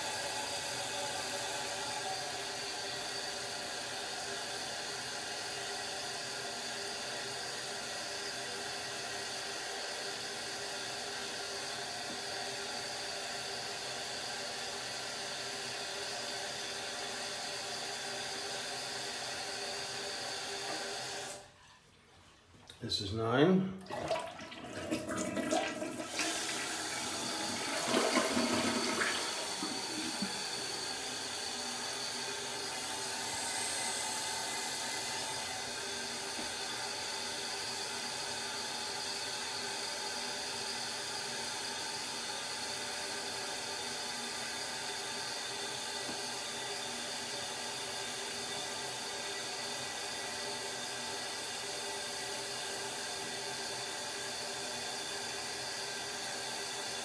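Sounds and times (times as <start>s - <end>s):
toilet flushing: 0.0s - 21.5s, 23.8s - 57.0s
toilet tank refilling hiss: 0.0s - 21.5s, 23.9s - 57.0s.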